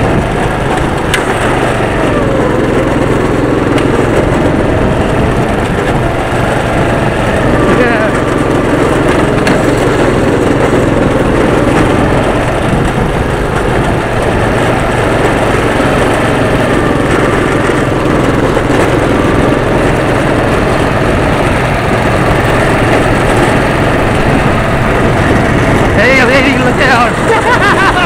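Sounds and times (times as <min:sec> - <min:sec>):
go-kart engine running: 0:00.0 - 0:28.0.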